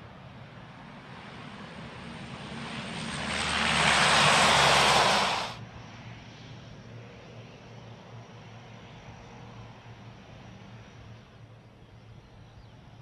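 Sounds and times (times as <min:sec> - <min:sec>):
turboprop aircraft passing: 0:00.0 - 0:13.0.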